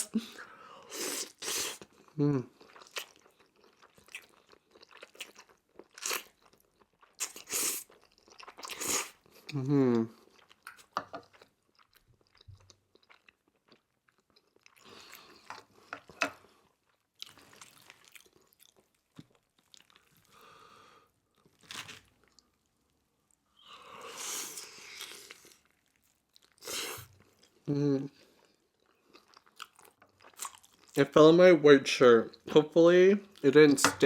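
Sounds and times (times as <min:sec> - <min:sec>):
person chewing and crunching food: 0:00.8 - 0:20.4, 0:21.1 - 0:23.4, 0:24.0 - 0:31.0.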